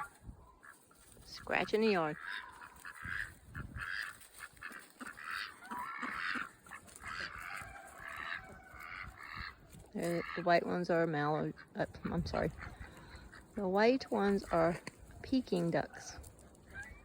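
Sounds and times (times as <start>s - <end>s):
ducks and geese calling: 0.0s - 17.0s.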